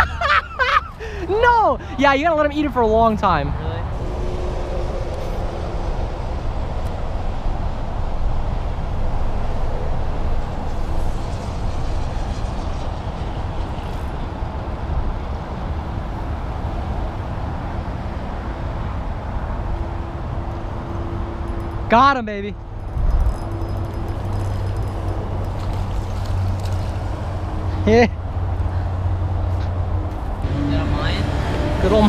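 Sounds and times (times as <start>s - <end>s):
highway traffic noise: 0.0s - 32.0s.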